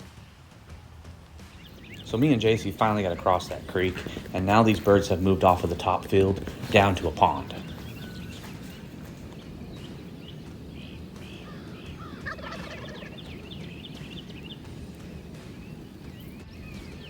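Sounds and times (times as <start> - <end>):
turkeys gobbling: 1.5 - 17.0.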